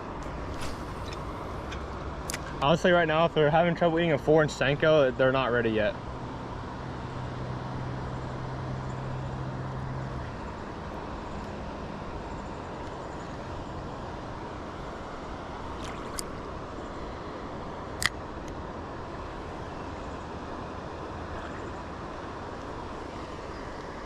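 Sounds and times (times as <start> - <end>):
creek water running: 0.0 - 24.0.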